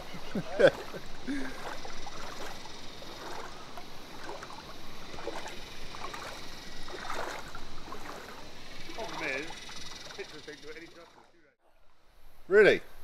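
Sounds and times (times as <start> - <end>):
water splashing and sloshing: 0.0 - 11.4.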